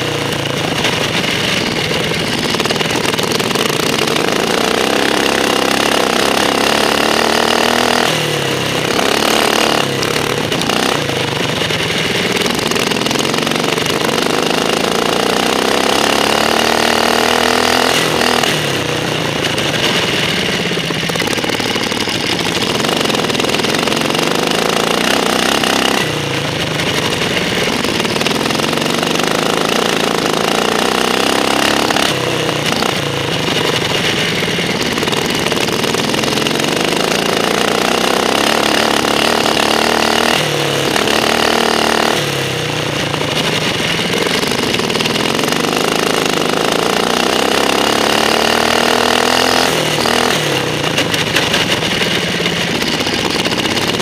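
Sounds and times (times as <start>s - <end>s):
ride-on mower engine revving: 0.0s - 54.0s.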